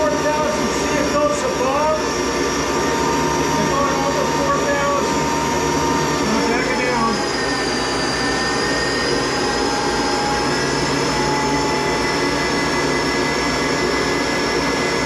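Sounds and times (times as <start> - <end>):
lathe whine and hum: 0.0 - 15.0.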